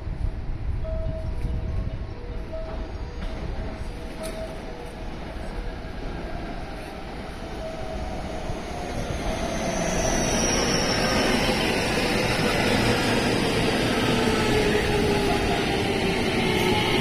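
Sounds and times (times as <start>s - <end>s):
electric train pulling in: 0.0s - 17.0s
train whining tones: 0.8s - 17.0s.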